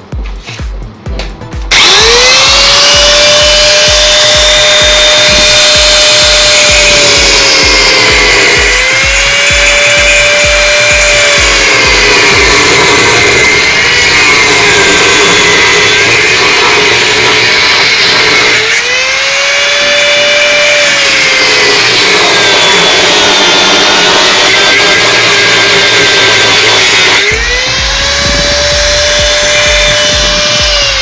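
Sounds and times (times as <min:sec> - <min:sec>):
angle grinder cutting metal: 0:01.6 - 0:31.0.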